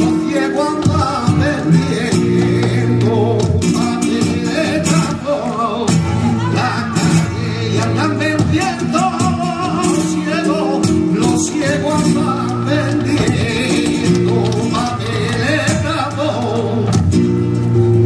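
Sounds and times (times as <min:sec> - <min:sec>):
dancer's feet striking stage: 0:00.0 - 0:05.6, 0:07.8 - 0:17.8
rhythmic hand-clapping: 0:00.0 - 0:05.9, 0:07.6 - 0:17.1
flamenco guitar playing: 0:00.0 - 0:18.0.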